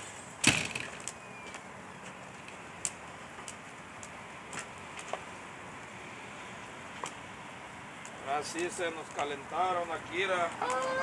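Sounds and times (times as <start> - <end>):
burning wood popping: 0.0 - 11.0
campfire crackling: 0.0 - 11.0.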